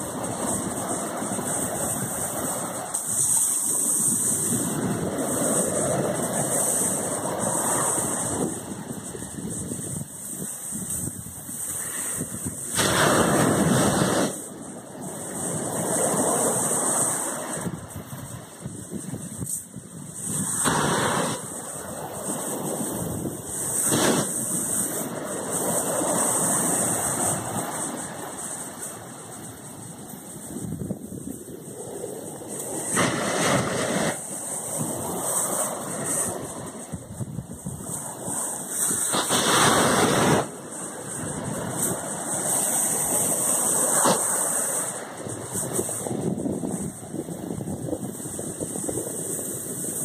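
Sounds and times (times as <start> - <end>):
sea surf on shore: 0.0 - 50.0
wind buffeting microphone: 0.0 - 50.0.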